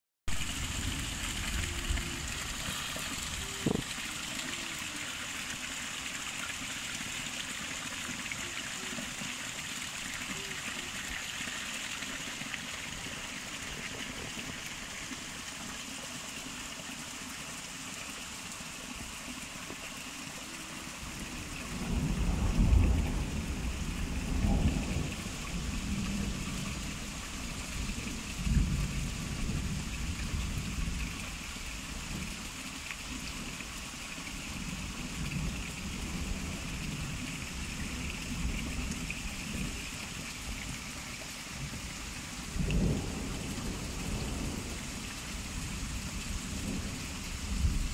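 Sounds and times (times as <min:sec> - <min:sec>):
rain and running water: 0:00.3 - 0:47.9.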